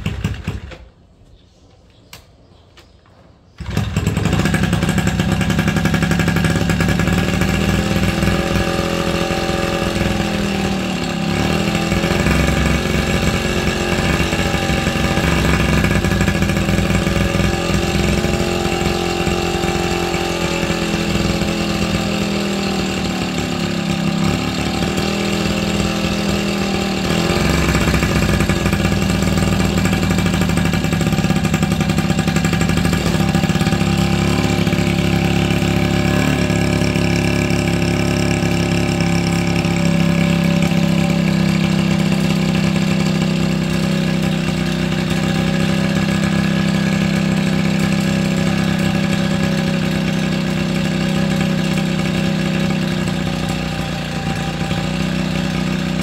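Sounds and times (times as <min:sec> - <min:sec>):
two-stroke engine idling: 0:00.0 - 0:00.8, 0:03.6 - 0:56.0.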